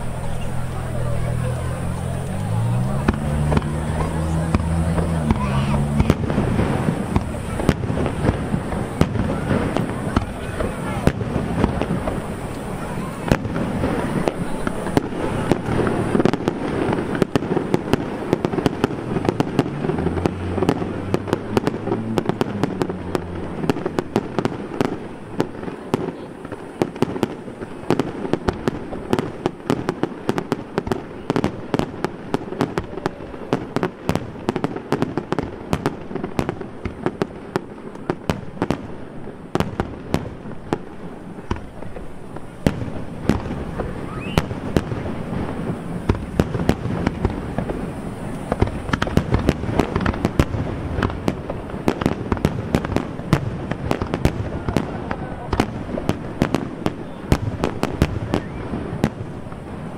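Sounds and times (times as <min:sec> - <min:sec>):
fireworks bangs and crackles: 0:00.0 - 0:59.9
fireworks rumble: 0:00.0 - 0:59.9.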